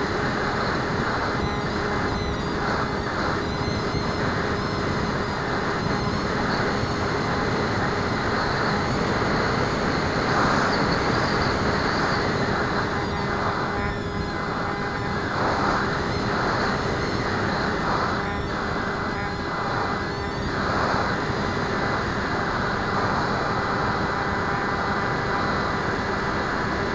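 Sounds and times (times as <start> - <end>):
electric motor and propeller drone: 0.0 - 26.9.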